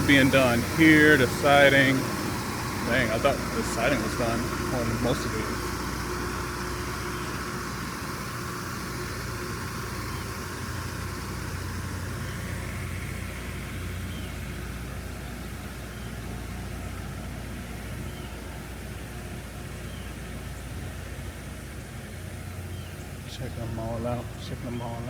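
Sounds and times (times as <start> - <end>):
low engine-like hum: 0.0 - 25.0
outdoor noise: 0.0 - 25.0.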